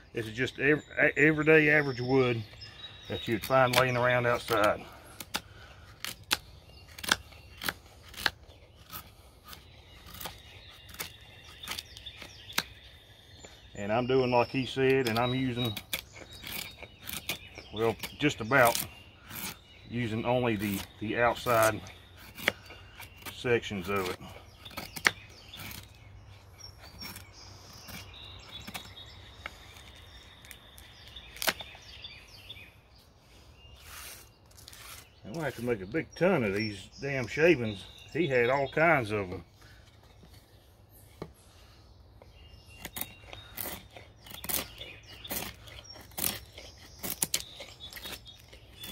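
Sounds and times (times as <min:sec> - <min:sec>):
knife shaving wood: 0:00.2 - 0:32.6, 0:33.2 - 0:48.9.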